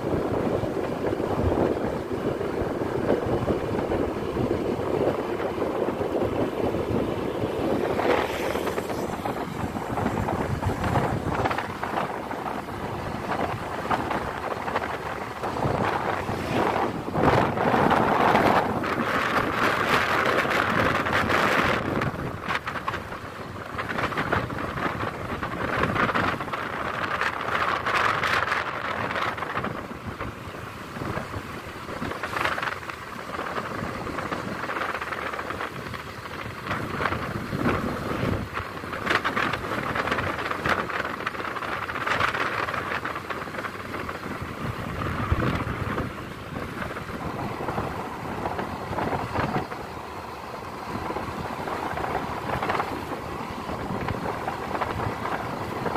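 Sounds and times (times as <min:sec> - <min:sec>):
road noise: 0:00.0 - 0:55.9
scooter engine running: 0:00.0 - 0:55.9
wind buffeting microphone: 0:00.0 - 0:55.9.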